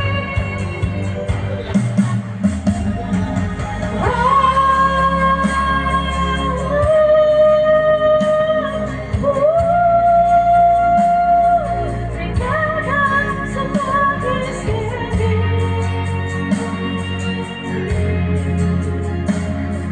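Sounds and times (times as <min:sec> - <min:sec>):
backing music: 0:00.0 - 0:19.9.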